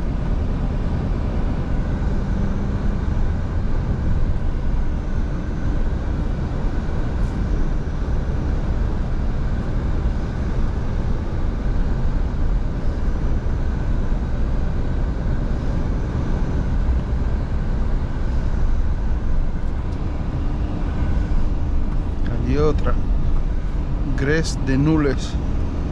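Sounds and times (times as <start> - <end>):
road and tyre noise: 0.0 - 25.9
truck engine drone: 0.0 - 25.9.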